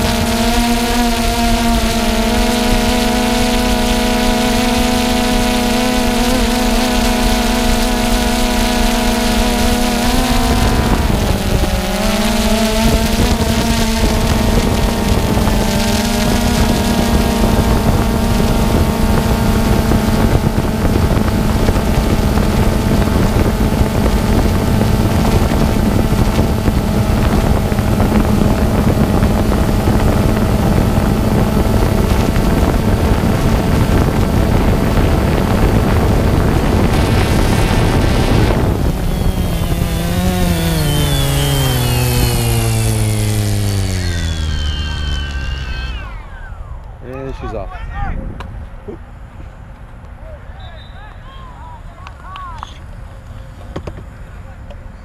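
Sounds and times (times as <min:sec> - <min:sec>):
drone motors whining: 0:00.0 - 0:47.6.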